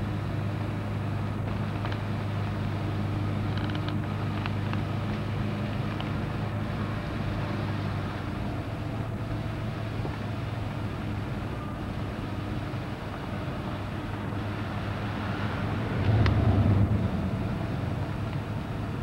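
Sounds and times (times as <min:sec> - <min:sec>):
vehicle running hum: 0:00.0 - 0:19.0.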